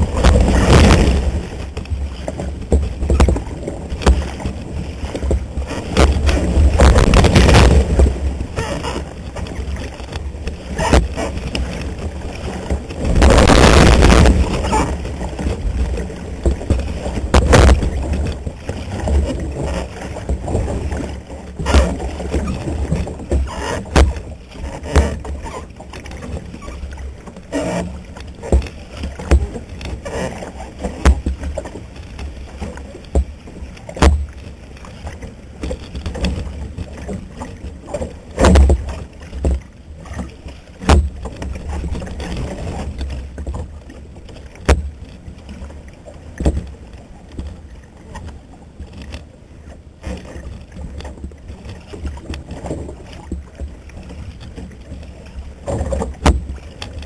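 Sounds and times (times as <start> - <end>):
sharp splashes and knocks: 0.0 - 57.0
water slapping against hull: 0.0 - 57.0.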